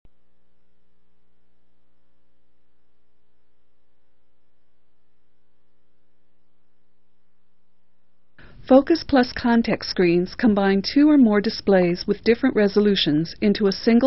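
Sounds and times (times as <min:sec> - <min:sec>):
electrical hum: 0:00.1 - 0:14.0.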